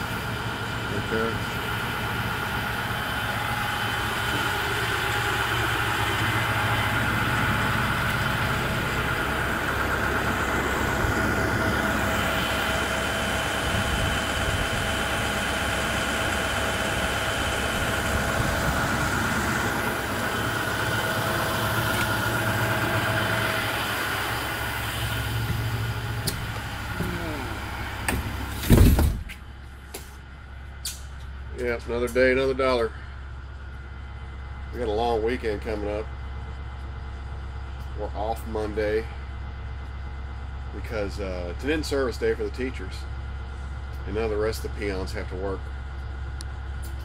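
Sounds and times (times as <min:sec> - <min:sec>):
diesel bus engine idling: 0:00.0 - 0:47.0.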